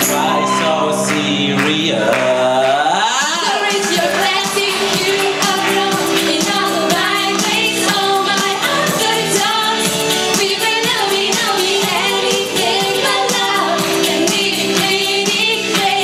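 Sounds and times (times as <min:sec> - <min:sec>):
pop song with beat: 0:00.0 - 0:16.0
sung vocals: 0:00.0 - 0:16.0.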